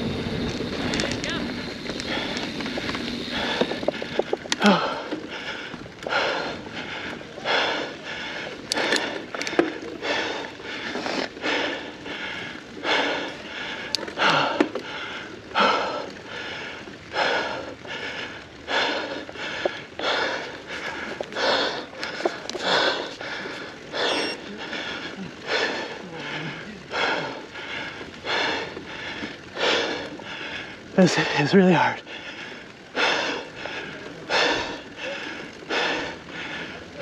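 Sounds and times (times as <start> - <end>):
person breathing hard: 1.9 - 31.4, 32.0 - 37.0.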